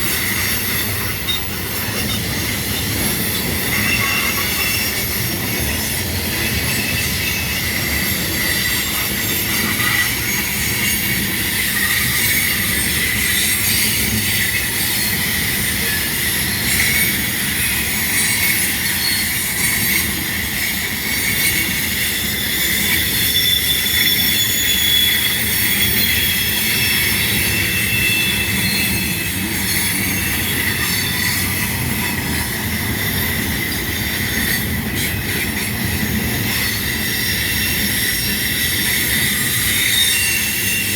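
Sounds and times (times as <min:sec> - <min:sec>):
steel wheels squealing on rail: 0:00.0 - 0:40.9
train cars rumbling past: 0:00.0 - 0:40.9.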